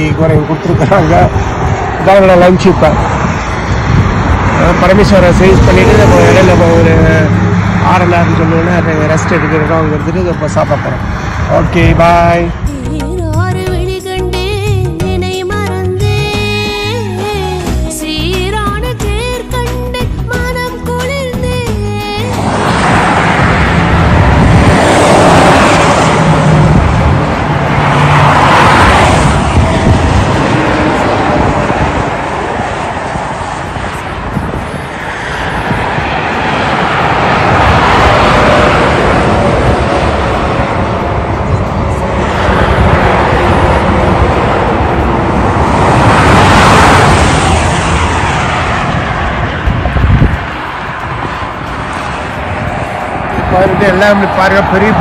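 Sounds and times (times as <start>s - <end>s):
highway traffic passing: 0.0s - 55.0s
truck tyre and engine noise: 0.0s - 55.0s.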